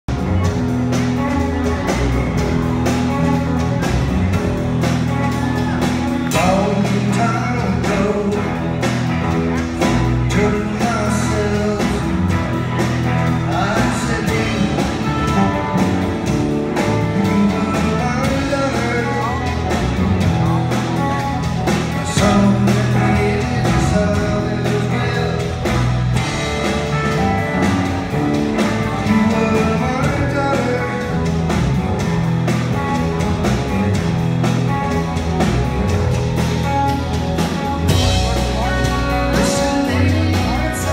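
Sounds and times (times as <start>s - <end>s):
bass guitar: 0.0s - 40.9s
drum kit: 0.0s - 40.9s
electric guitar: 0.1s - 40.9s.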